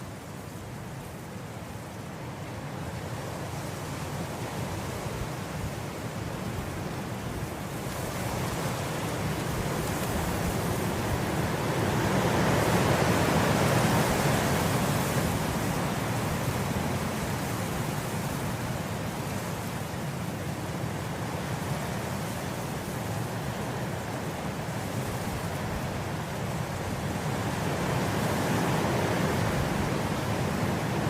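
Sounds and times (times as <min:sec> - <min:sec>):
wind blowing through grass: 0:00.0 - 0:31.0.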